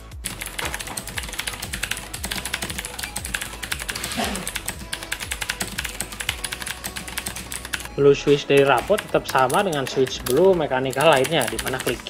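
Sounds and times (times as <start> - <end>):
fast clicky keyboard typing: 0.2 - 12.0.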